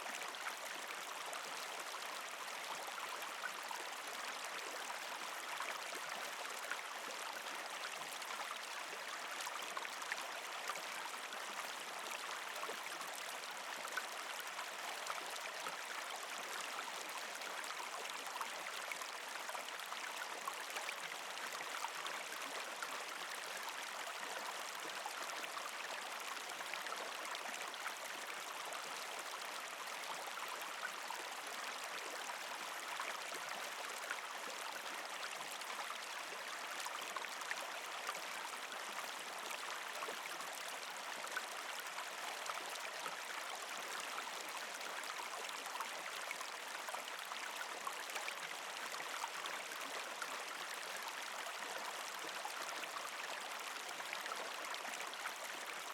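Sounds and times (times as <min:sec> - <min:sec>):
creek gurgling over rocks: 0:00.0 - 0:55.9.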